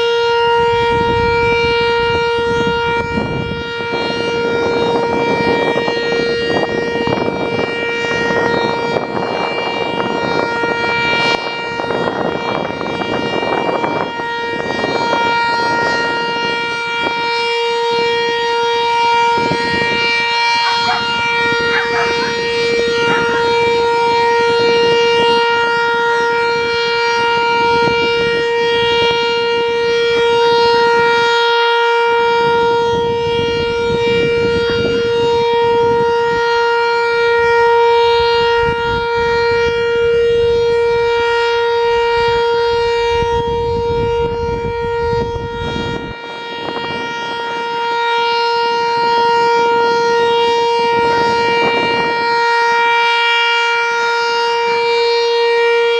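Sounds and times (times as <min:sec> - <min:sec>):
warning siren steady tone: 0:00.0 - 0:55.9.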